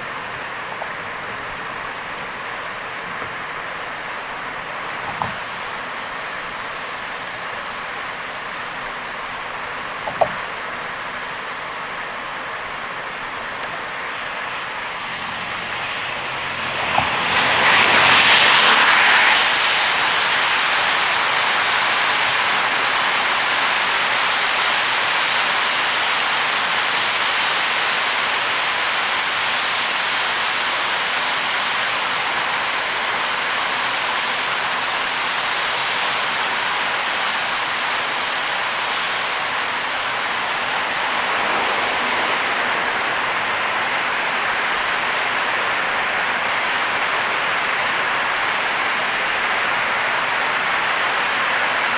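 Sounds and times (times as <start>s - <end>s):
rain and tyre spray hiss: 0.0s - 51.9s.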